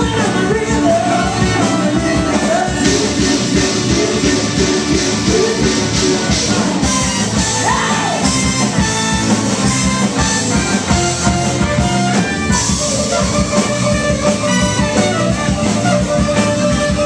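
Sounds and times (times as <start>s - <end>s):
bass guitar: 0.0s - 17.0s
electric guitar: 0.0s - 17.0s
drum beat: 0.1s - 17.0s.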